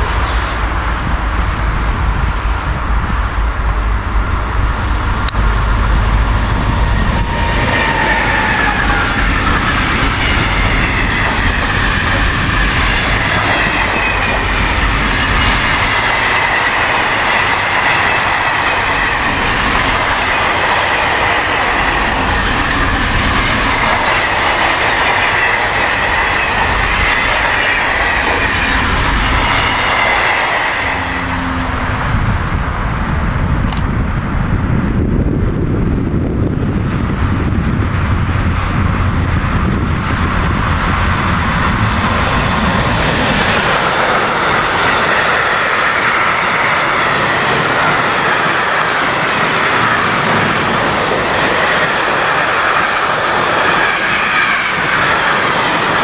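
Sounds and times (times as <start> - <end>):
high whine from wheels: 0.0 - 56.0
train wheels rolling on rails: 0.0 - 56.0.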